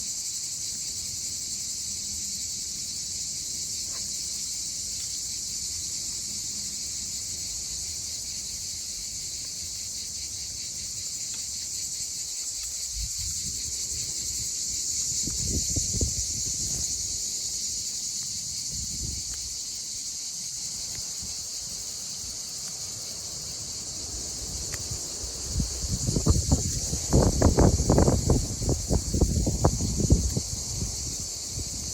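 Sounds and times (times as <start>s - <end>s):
high-pitched insect chorus: 0.0s - 31.9s.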